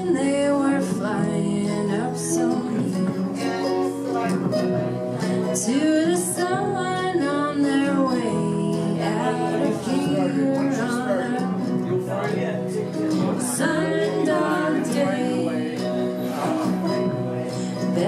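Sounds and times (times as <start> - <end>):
woman singing: 0.0 - 12.0, 13.2 - 18.0
strummed acoustic guitar: 0.0 - 18.0.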